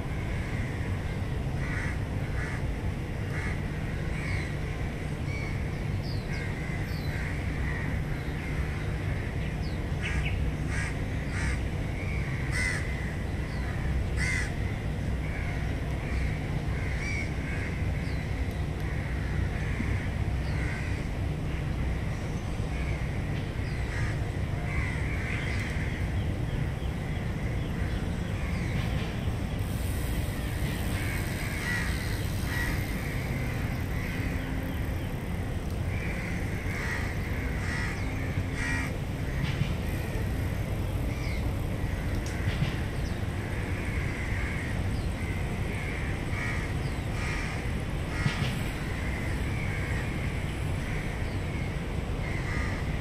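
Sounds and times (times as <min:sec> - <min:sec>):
birds calling: 0:00.0 - 0:52.9
low hum of city traffic: 0:00.0 - 0:53.0.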